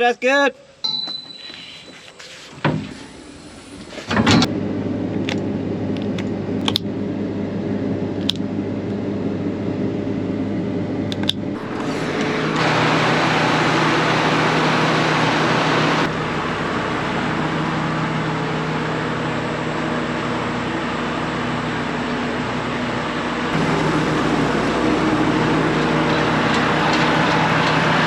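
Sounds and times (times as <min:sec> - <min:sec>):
diesel engine running: 0:03.0 - 0:28.0.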